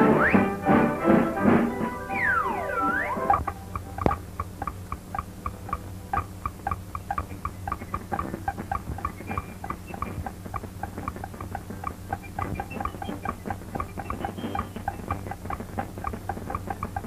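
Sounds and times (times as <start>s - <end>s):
low soundtrack hum: 0.0s - 14.8s
bright pitched walking taps: 2.9s - 17.0s.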